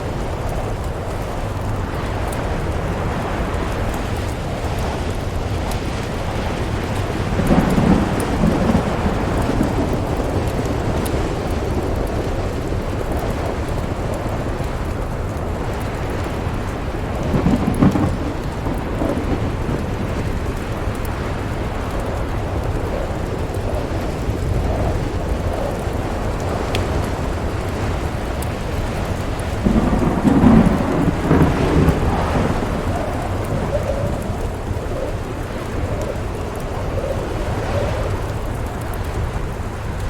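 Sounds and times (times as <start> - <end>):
rain pattering: 0.0 - 40.0
thunder rolling: 0.0 - 40.0
wind rushing: 0.0 - 40.0.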